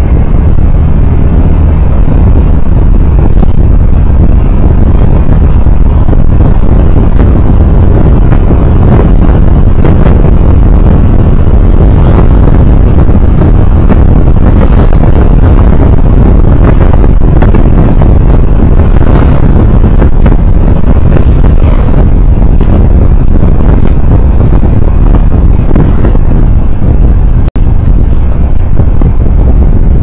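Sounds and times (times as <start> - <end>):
vehicle road noise rumble: 0.0 - 30.0.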